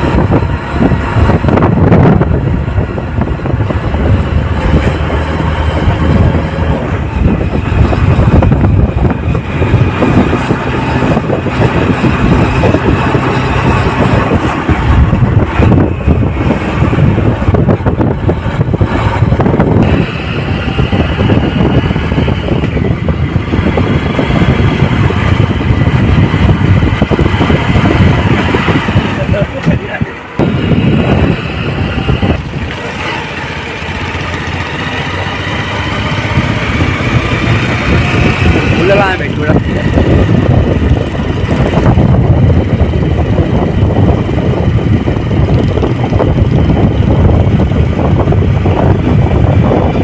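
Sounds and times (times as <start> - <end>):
motorcycle engine running: 0.0 - 50.0
wind noise on microphone: 0.0 - 50.0.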